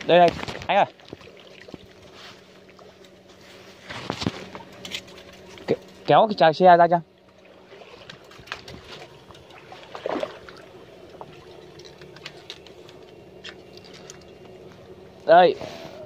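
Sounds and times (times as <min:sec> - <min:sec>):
low steady hum: 0:00.0 - 0:16.0
water sloshing: 0:00.2 - 0:06.2, 0:07.0 - 0:15.2.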